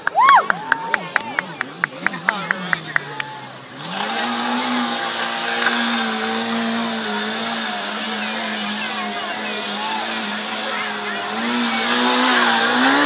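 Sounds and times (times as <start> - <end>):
motorcycle engine revving: 1.2 - 13.0.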